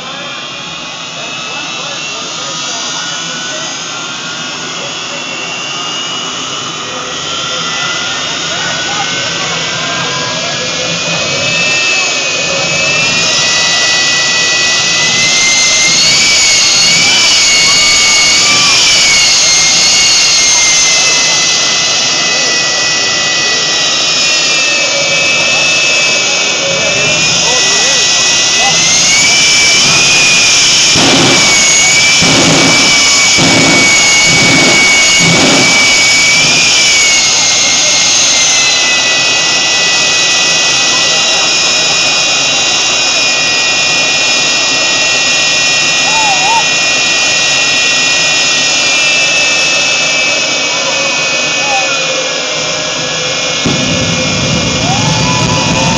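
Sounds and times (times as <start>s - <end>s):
jet engine roar with whine: 0.0s - 55.9s.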